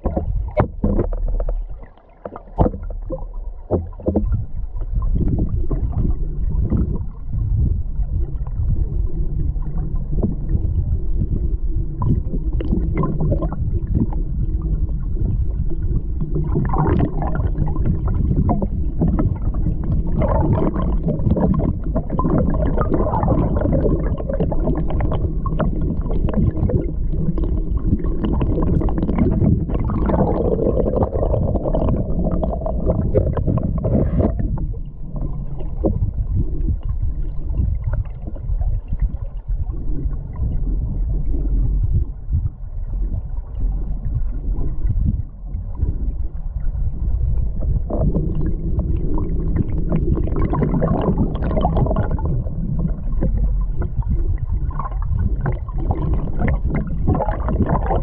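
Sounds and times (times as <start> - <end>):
muffled underwater river rushing: 0.0 - 58.0.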